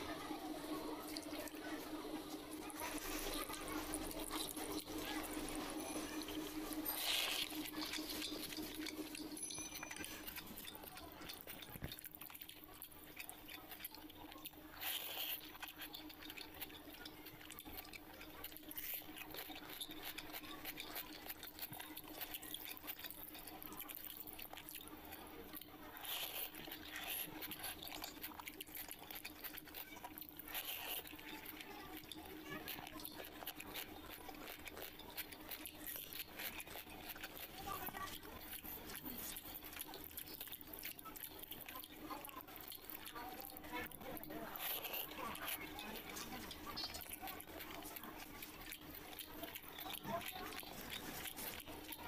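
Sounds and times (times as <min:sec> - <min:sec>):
chewing mouth sounds: 0:00.0 - 0:52.0
faint steady hum: 0:00.0 - 0:52.0
fingers squishing wet rice: 0:00.0 - 0:52.0.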